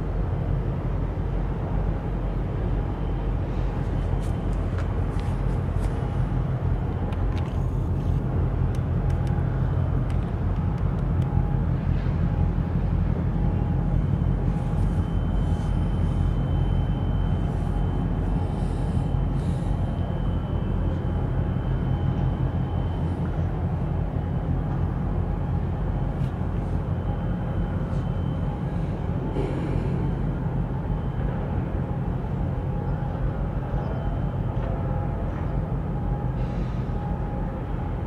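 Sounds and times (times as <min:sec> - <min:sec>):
diesel engines rumbling: 0:00.0 - 0:38.0
faint high whine: 0:00.0 - 0:38.0.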